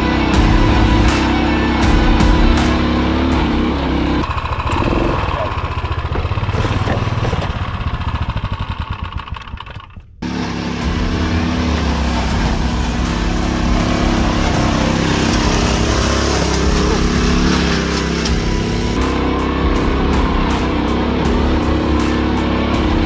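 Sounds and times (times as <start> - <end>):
motorcycle engine chugging: 0.0 - 23.0.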